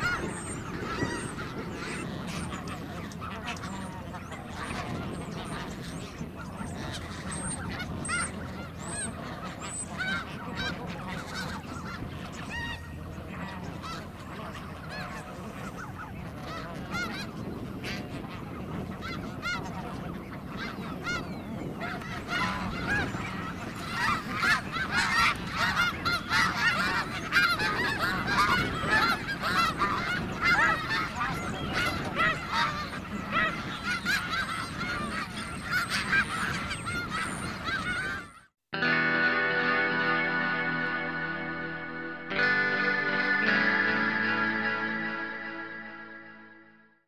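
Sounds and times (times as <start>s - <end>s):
geese honking: 0.0s - 46.7s.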